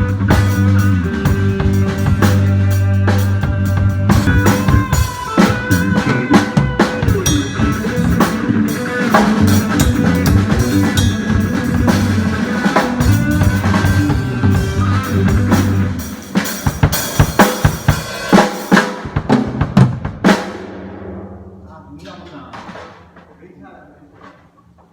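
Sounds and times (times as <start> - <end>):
live band playing: 0.0 - 21.7
drum kit: 0.0 - 23.4.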